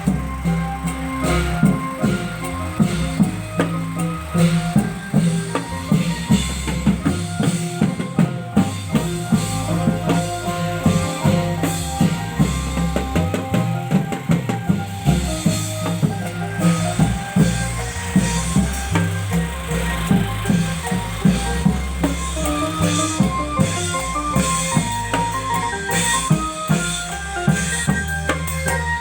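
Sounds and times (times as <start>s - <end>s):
drums beating fast rhythm: 0.0s - 29.0s
held bass and melody notes: 0.0s - 29.0s.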